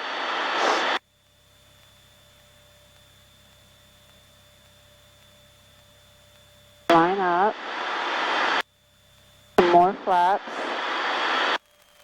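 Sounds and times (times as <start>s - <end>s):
faint electronic hum: 0.0s - 11.9s.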